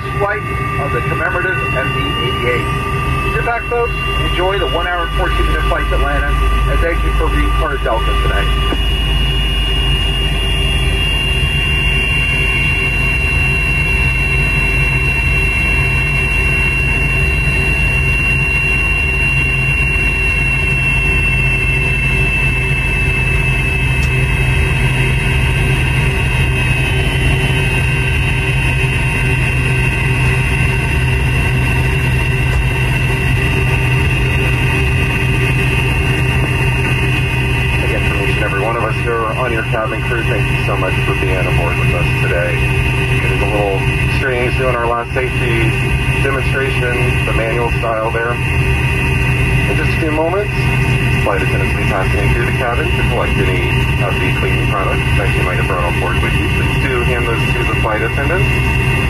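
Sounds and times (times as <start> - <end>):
jet engines taxiing with whine: 0.0 - 59.0.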